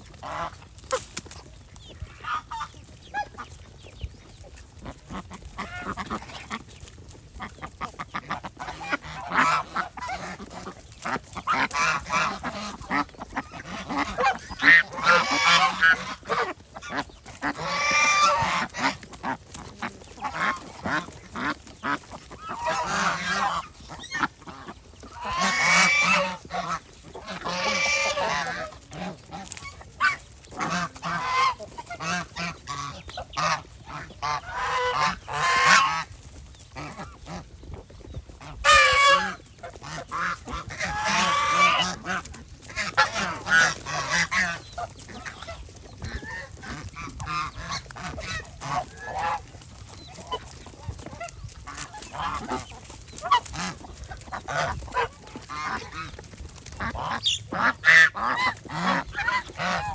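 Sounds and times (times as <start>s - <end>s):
geese honking: 0.0s - 59.9s.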